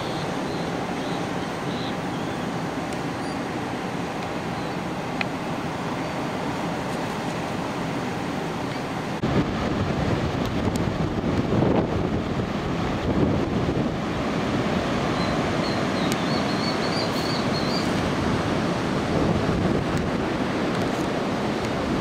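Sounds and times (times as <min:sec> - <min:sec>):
strong wind: 0:00.0 - 0:22.0
surf rushing: 0:00.0 - 0:22.0.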